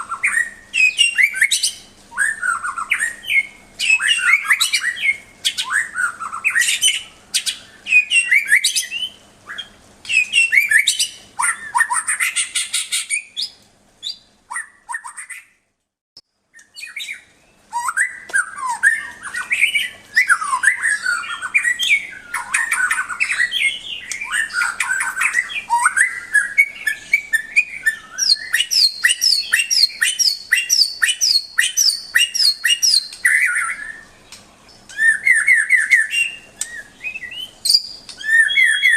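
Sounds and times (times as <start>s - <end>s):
bird singing: 0.0s - 15.5s, 16.5s - 38.9s.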